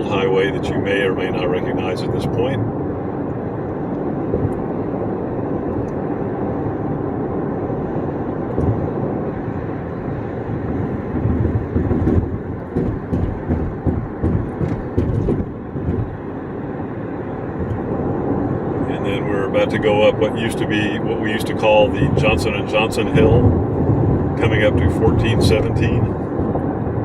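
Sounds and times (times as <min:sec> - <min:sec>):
car road noise at highway speed: 0:00.0 - 0:27.0.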